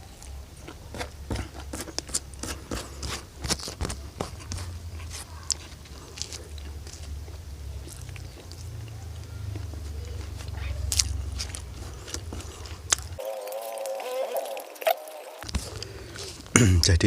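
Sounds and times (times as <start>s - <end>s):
crunchy food being chewed: 0.0s - 17.0s.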